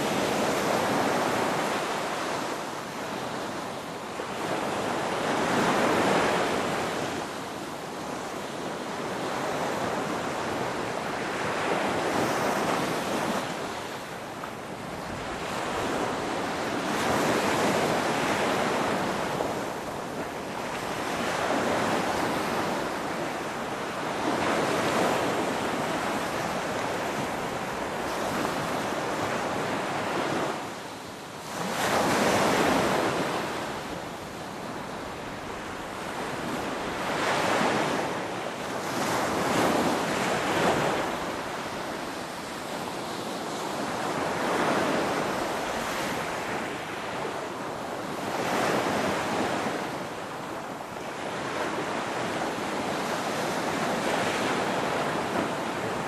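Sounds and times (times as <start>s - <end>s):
ocean waves: 0.0s - 56.0s.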